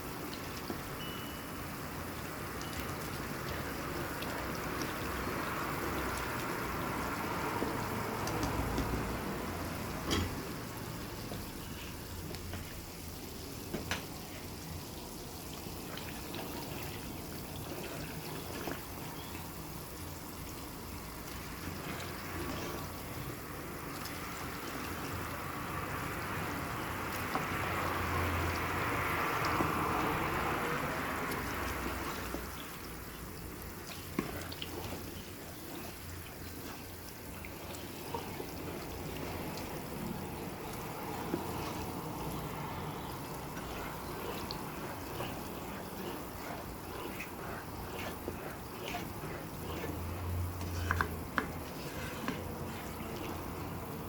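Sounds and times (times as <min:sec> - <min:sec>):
liquid pouring: 0:02.0 - 0:54.0.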